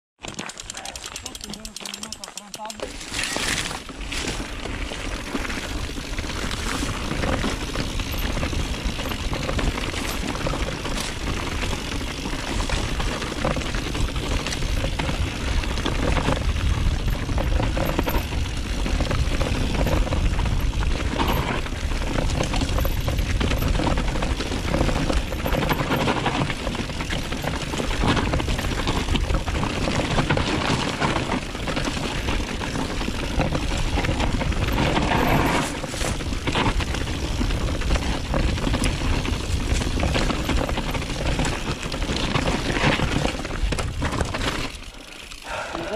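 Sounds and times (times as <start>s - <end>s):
knocks from bike on trail: 0.2s - 44.8s
bike tyre noise: 0.2s - 45.9s.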